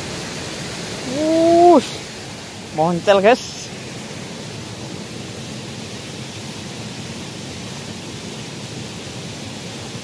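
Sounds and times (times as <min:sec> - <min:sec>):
stream flowing and rushing: 0:00.0 - 0:10.0.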